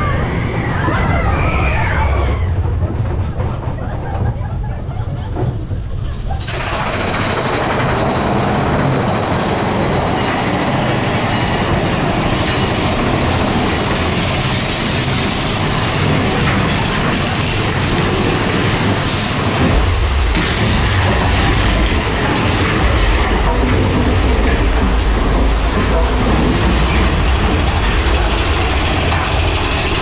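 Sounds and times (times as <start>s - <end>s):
coaster cars rattling on track: 0.0s - 30.0s.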